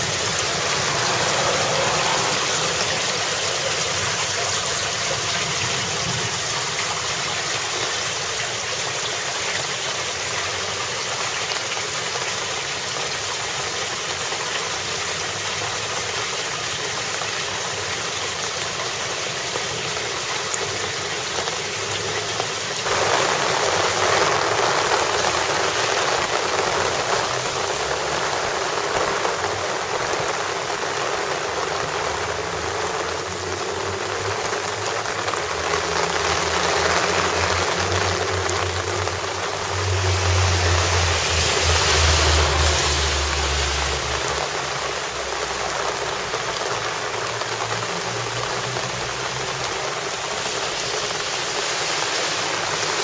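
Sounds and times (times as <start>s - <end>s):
heavy rain: 0.0s - 53.0s
water rushing into gutter: 0.0s - 53.0s.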